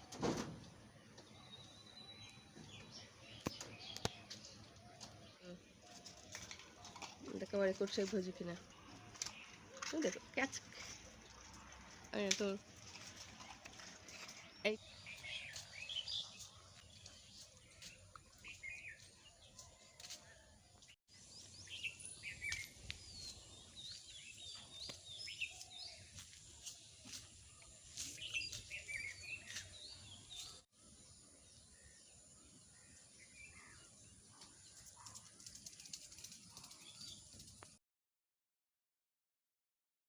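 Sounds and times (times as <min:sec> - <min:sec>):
small birds chirping: 0:00.8 - 0:37.8.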